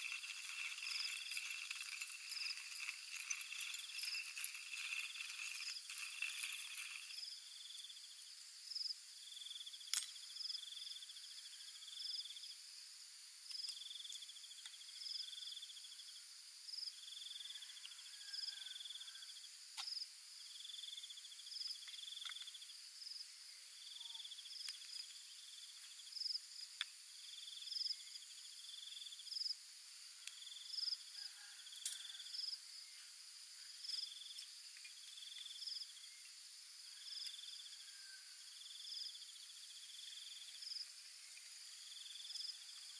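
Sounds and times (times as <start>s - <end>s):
high-pitched insect drone: 0.0s - 12.8s, 13.5s - 42.9s
insects trilled chirps: 0.0s - 42.9s.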